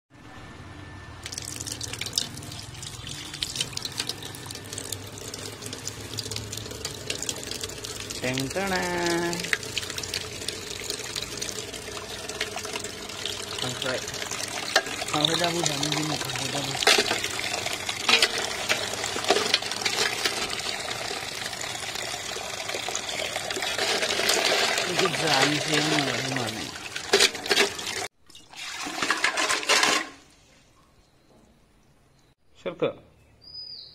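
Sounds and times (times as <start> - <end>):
tap water splashing into pot: 1.3 - 30.1.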